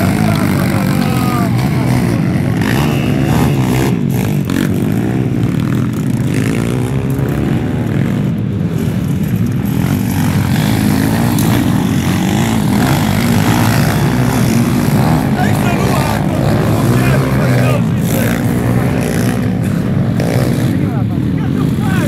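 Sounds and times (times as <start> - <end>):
pit bike engines revving: 0.0 - 22.0.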